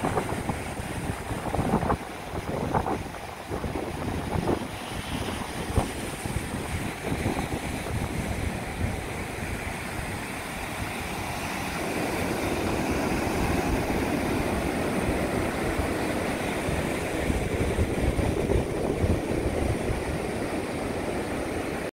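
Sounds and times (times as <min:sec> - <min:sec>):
ocean surf washing: 0:00.0 - 0:21.9
wind buffeting microphone: 0:00.0 - 0:21.9.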